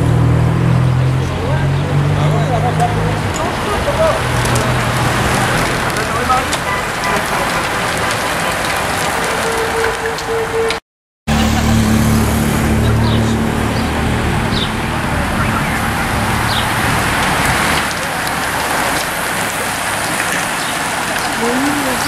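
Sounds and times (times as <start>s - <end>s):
engine humming: 0.0s - 22.0s
bicycles rushing past: 0.3s - 10.6s, 11.3s - 22.0s.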